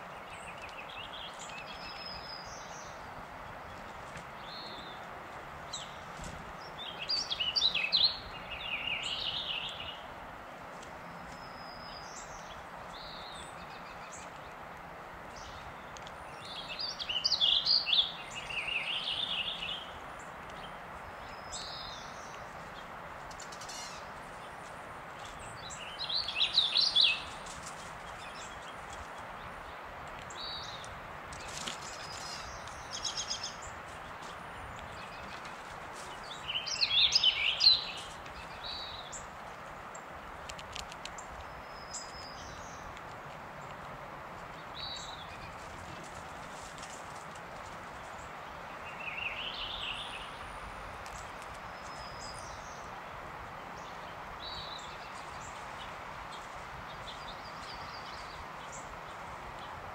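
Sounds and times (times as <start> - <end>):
songbird singing: 0.0 - 59.9
steady background hiss: 0.0 - 59.9.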